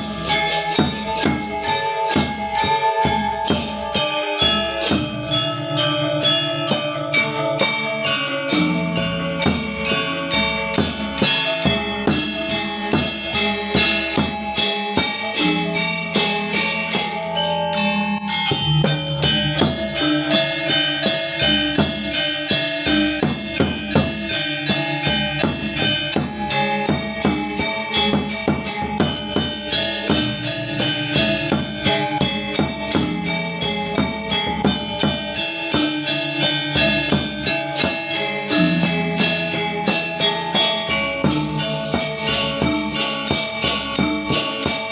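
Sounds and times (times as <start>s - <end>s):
high cymbal-like shimmer: 0.0s - 44.9s
metallophone strikes: 0.0s - 44.9s.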